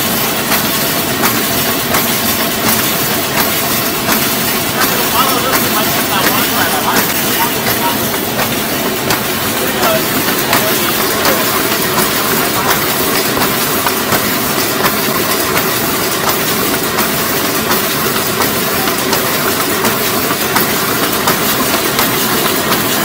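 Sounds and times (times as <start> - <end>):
laminator machine running: 0.0 - 23.0
fast uneven clicking: 0.1 - 23.0.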